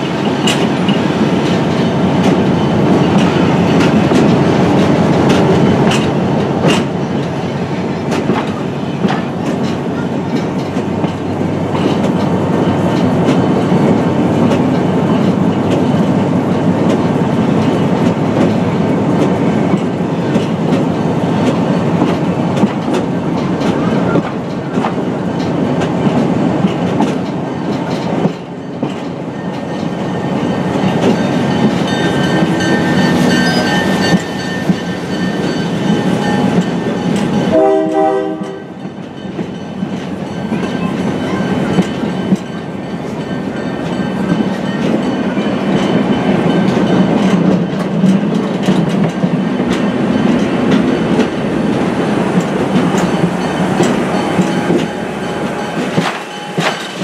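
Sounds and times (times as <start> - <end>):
train rumbling and rattling: 0.0 - 57.0
wheels clicking over rails: 0.0 - 57.0.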